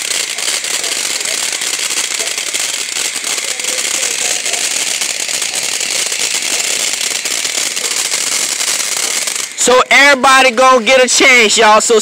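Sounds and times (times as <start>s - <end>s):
firework crackling and fizzing: 0.0s - 12.0s.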